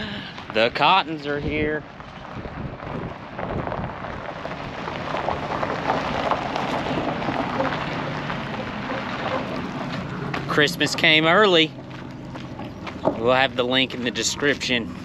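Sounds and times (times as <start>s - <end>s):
footsteps on gravel: 2.0s - 15.0s.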